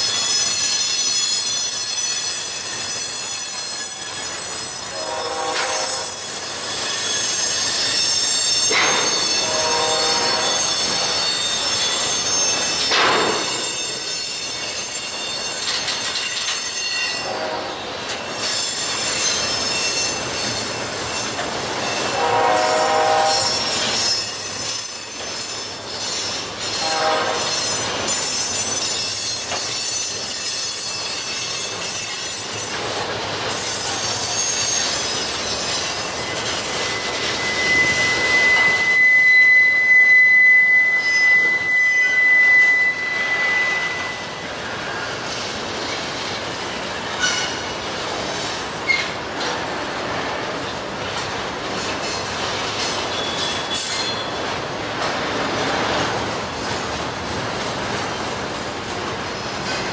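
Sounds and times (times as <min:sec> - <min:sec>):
train wheels squealing on rail: 0:00.0 - 0:59.9.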